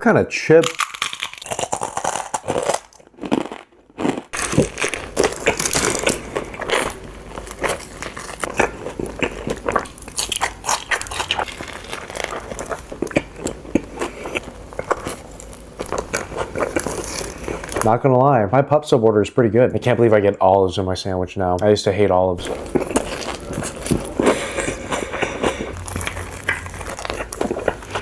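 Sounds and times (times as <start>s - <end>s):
crunchy biting and chewing food: 0.6s - 17.9s, 22.4s - 28.0s.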